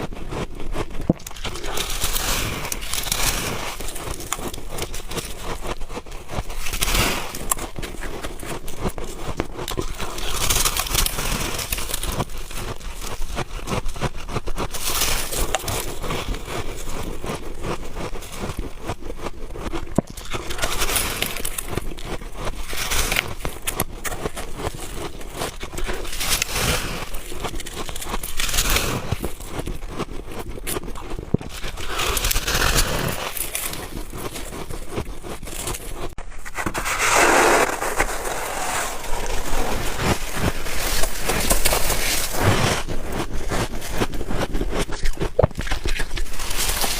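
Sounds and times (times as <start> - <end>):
frost being chewed crunching: 0.0 - 46.9.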